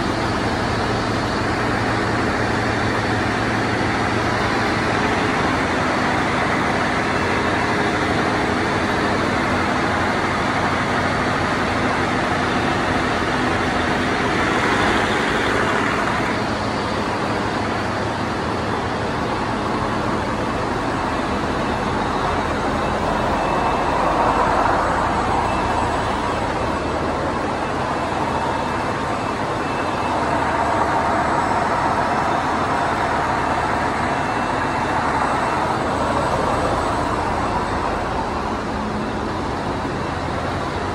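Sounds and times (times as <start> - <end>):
engine-room machinery din: 0.0 - 40.9.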